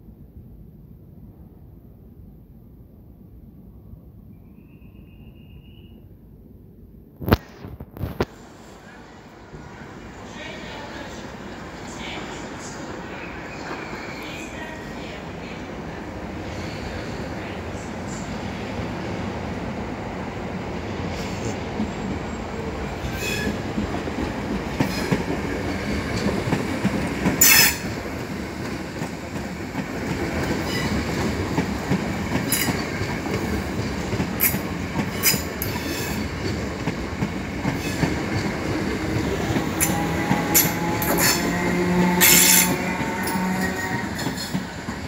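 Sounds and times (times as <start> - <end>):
train wheels rumbling on rails: 7.4 - 45.0.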